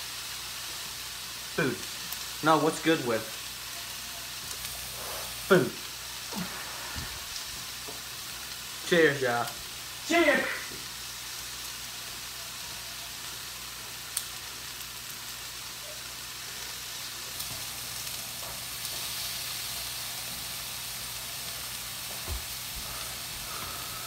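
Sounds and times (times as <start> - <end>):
meat sizzling in a frying pan: 0.0 - 24.0.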